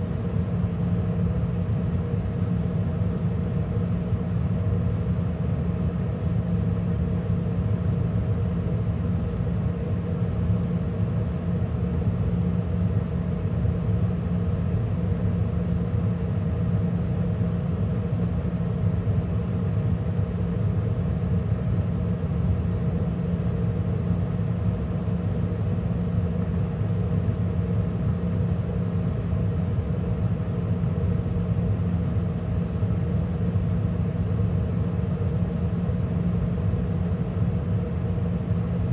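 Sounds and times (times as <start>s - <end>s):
gas furnace humming: 0.0s - 38.9s.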